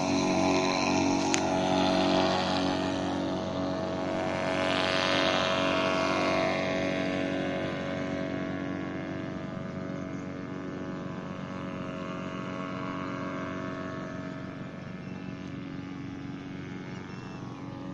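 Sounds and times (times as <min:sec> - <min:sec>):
model paramotor motor and propeller: 0:00.0 - 0:17.9.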